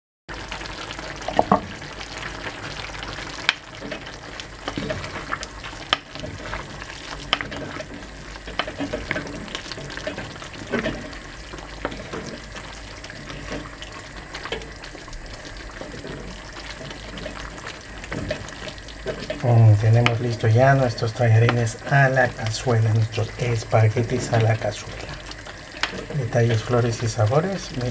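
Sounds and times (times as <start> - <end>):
stew bubbling: 0.3 - 27.9.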